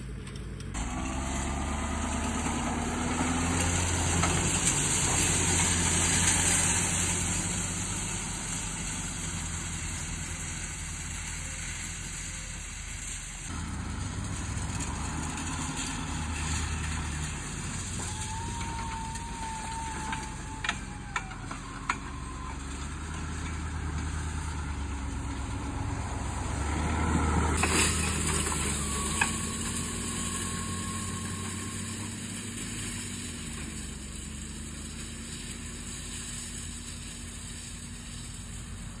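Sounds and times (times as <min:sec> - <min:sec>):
pickup truck engine running: 0:00.0 - 0:39.0.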